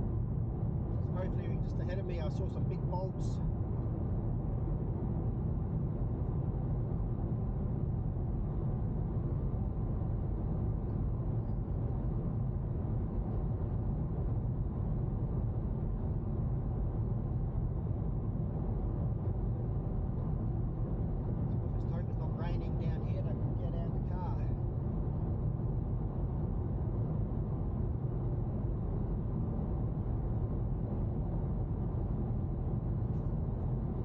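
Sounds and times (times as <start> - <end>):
car interior road and engine noise: 0.0 - 34.0.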